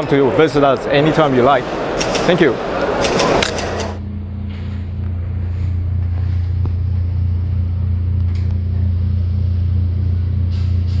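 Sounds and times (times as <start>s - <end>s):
low mechanical hum: 1.6s - 11.0s.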